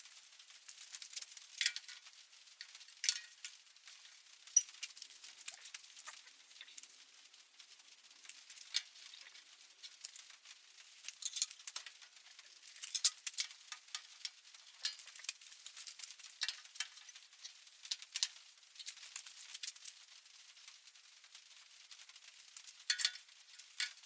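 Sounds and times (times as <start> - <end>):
small hard parts clicking and rattling: 0.0 - 7.0, 8.2 - 20.0, 22.2 - 24.0.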